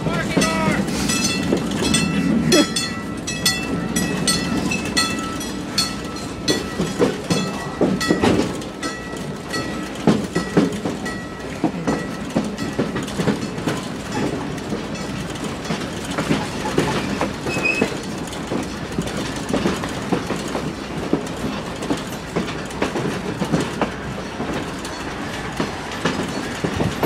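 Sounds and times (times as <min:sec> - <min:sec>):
railroad car rattling: 0:00.0 - 0:27.0
train low rumble: 0:00.0 - 0:27.0
wheels clicking and knocking: 0:00.0 - 0:27.0.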